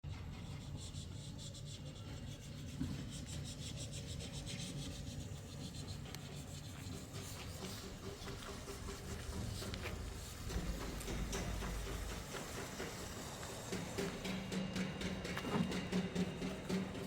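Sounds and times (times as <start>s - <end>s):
rhythmic scraping strokes: 0.0s - 17.0s.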